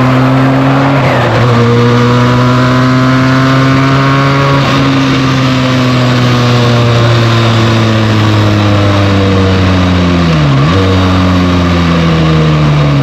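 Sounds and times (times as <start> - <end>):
motorcycle engine: 0.0 - 13.0
wind and road noise: 0.0 - 13.0.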